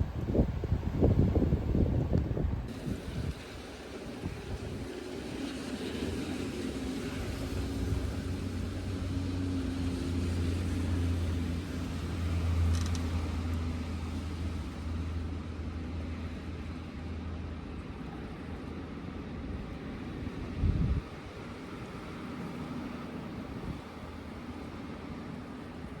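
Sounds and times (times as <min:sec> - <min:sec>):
blizzard wind gusts roaring: 0:00.0 - 0:26.0.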